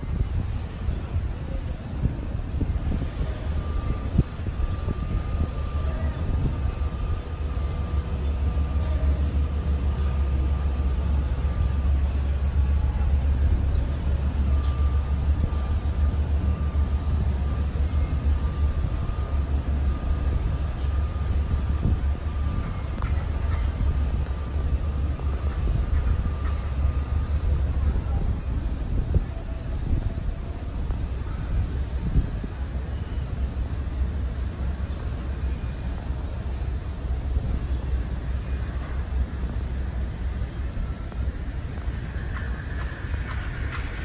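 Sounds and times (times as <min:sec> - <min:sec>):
jet airliner passing overhead: 0:00.0 - 0:44.0.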